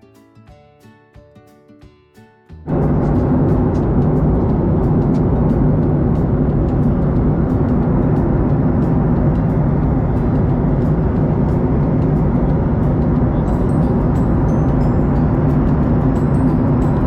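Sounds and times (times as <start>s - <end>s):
low even hum: 2.7s - 17.0s
vehicle running noise: 2.7s - 17.0s.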